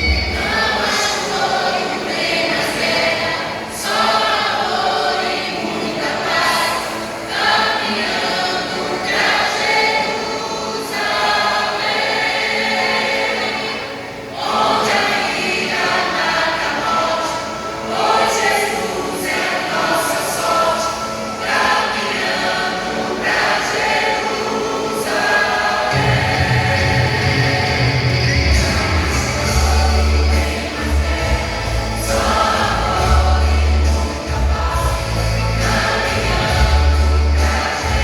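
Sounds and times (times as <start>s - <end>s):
vocal group singing gospel: 0.0s - 38.0s.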